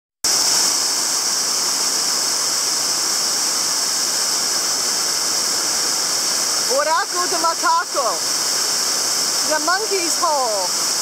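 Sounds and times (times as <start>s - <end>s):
waterfall rushing over rocks: 0.2s - 11.0s.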